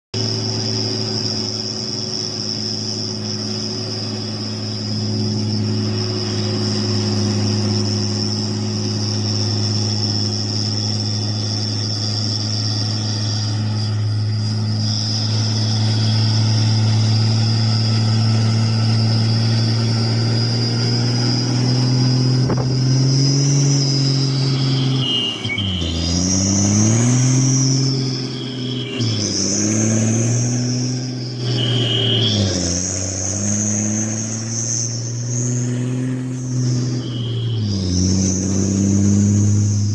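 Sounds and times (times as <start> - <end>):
diesel truck engine running: 0.0 - 39.9
steady high tone: 0.2 - 39.9.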